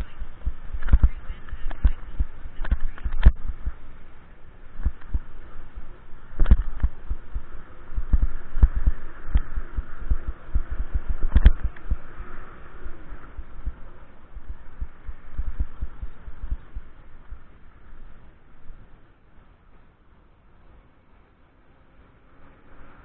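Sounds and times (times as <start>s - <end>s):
bike riding rumble and thumps: 0.0s - 20.7s.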